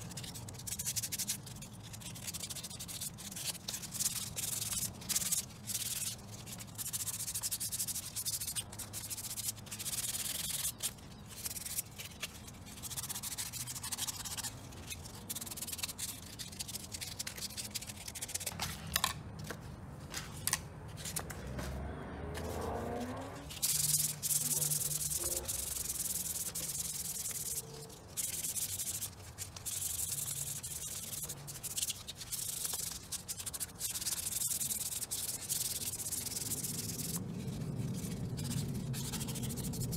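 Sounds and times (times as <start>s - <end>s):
wet sanding by hand: 0.0s - 18.5s, 22.5s - 39.9s.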